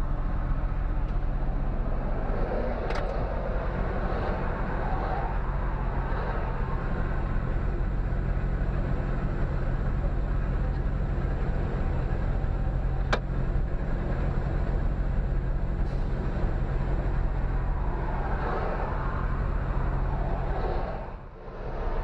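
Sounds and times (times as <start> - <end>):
traffic rushing: 0.0 - 22.0
engine idling: 2.8 - 20.7.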